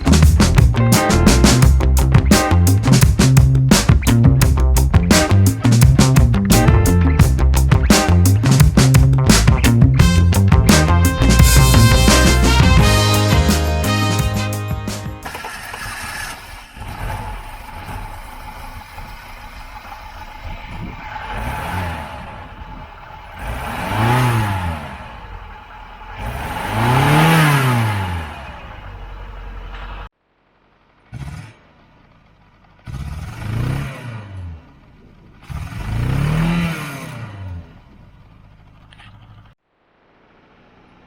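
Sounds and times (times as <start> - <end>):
car engine idling and revving: 0.0 - 13.1, 15.2 - 39.6.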